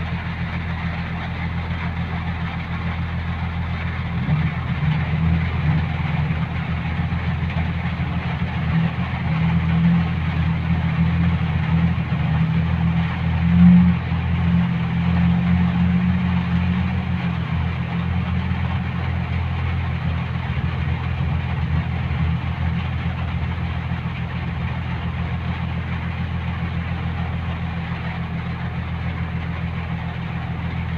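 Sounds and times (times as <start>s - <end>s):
engine hum: 0.0s - 30.9s.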